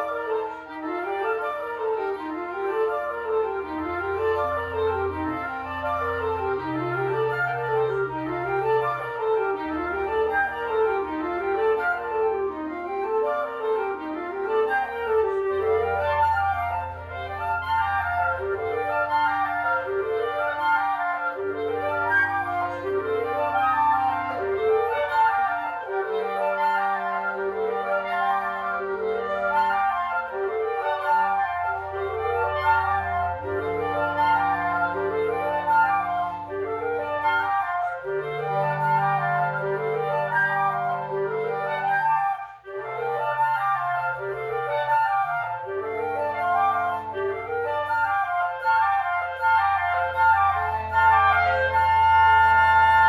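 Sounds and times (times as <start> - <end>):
woodwind quintet playing: 0.0 - 53.0.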